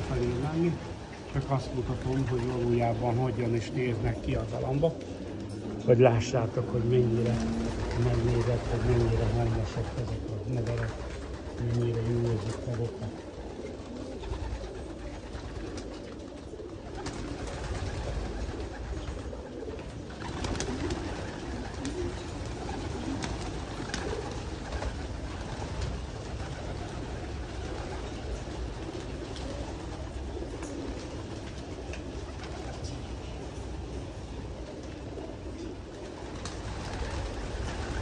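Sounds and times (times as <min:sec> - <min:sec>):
pigeons cooing: 0:00.0 - 0:38.0.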